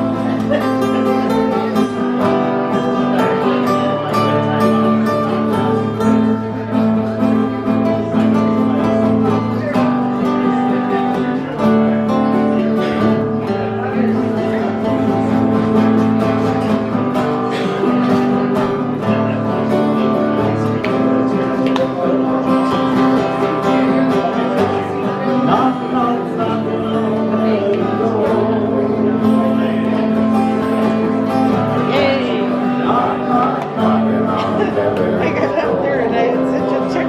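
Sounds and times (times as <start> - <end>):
acoustic guitars strumming chords: 0.0 - 37.0.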